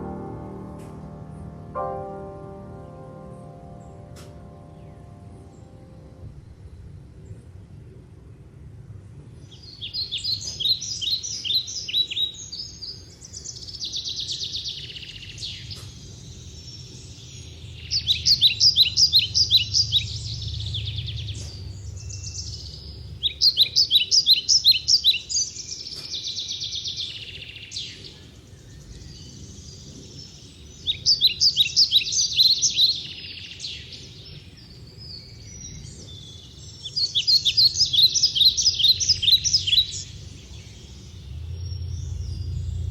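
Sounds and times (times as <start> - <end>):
songbird singing: 0.0 - 7.7, 9.3 - 42.9.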